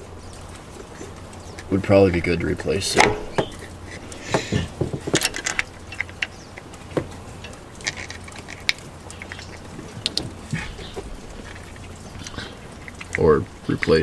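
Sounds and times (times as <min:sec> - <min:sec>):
low steady hum: 0:00.0 - 0:14.0
hand tools clicking and knocking: 0:00.9 - 0:14.0.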